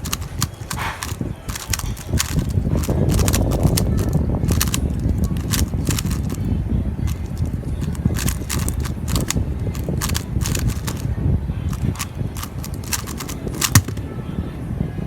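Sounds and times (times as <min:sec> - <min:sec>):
plastic puzzle cube clicking: 0:00.0 - 0:06.5, 0:07.1 - 0:11.1, 0:11.7 - 0:14.0.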